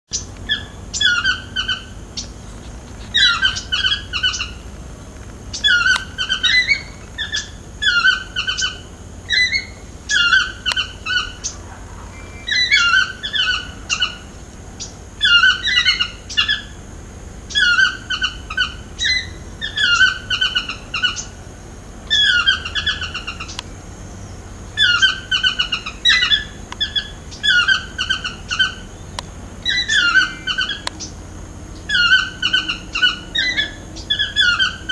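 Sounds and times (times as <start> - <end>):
toucan yelping call: 0.1 - 2.4, 3.1 - 4.8, 5.4 - 16.8, 17.5 - 21.5, 22.1 - 34.9.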